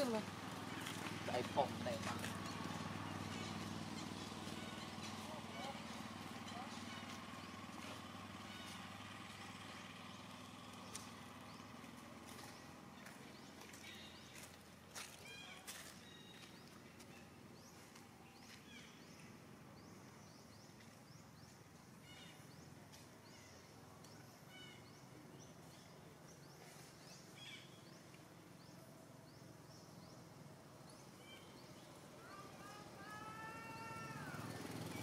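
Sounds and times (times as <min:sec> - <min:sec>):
faint forest ambience: 0:00.0 - 0:35.0.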